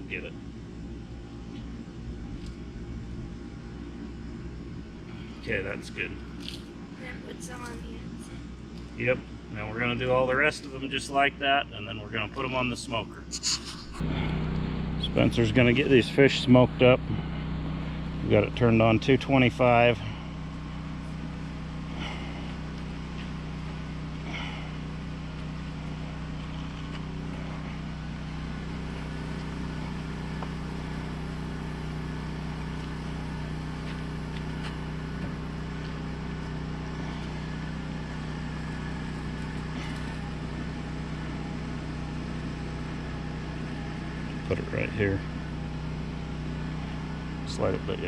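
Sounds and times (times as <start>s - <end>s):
motor humming: 0.0s - 48.0s.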